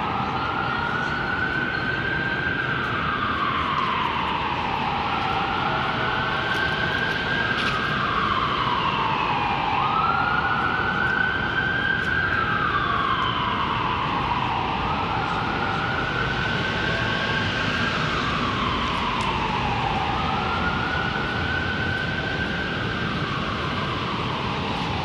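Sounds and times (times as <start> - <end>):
emergency siren wailing: 0.0 - 25.0
street noise: 0.0 - 25.0.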